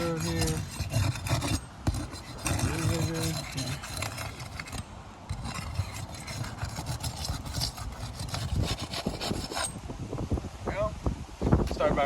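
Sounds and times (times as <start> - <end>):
tool scraping under roof shingles: 0.0 - 9.8.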